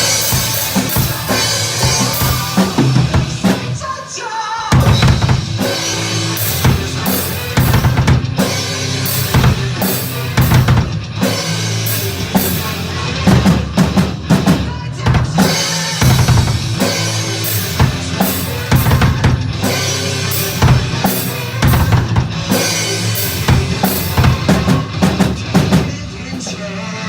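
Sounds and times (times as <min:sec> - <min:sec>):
drum kit playing: 0:00.0 - 0:03.8, 0:04.7 - 0:26.7
recorded backing music: 0:00.0 - 0:04.1, 0:04.7 - 0:27.0.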